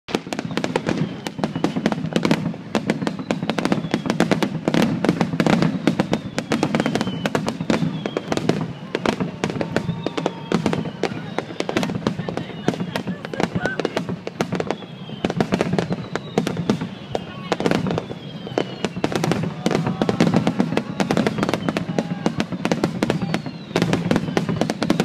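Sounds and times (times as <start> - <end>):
falling firework whistle: 0.1 - 25.0
fireworks bangs and crackles: 0.1 - 25.0.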